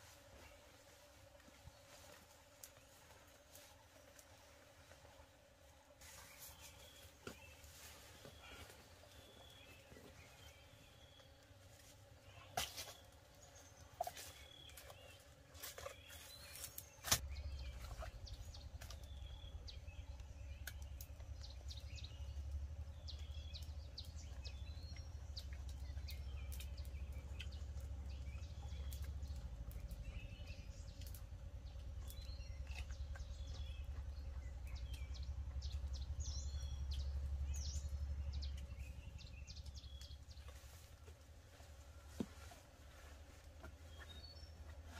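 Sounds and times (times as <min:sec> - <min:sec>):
forest birds chirping: 0:00.0 - 0:44.9.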